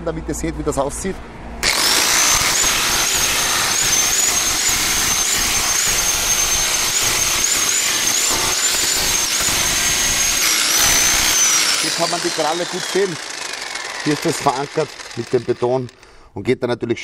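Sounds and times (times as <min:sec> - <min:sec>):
rotary hammer chiselling concrete: 0:01.6 - 0:16.1.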